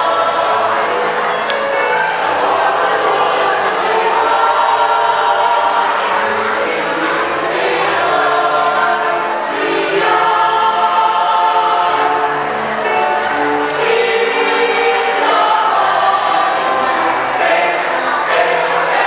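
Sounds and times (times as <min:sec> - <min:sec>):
choir singing chords: 0:00.0 - 0:19.0.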